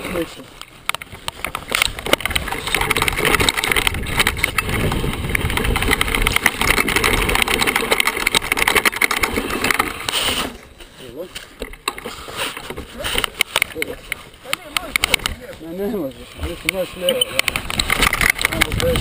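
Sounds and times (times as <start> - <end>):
bike rattling: 0.0 - 19.0
tyres crunching over loose stones: 0.0 - 19.0.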